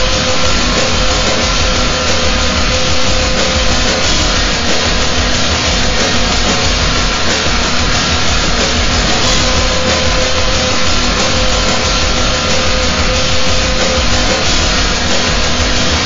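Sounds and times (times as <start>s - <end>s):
distorted noise music: 0.0s - 16.0s
steady tones: 0.0s - 16.0s
throbbing low end: 0.0s - 16.0s.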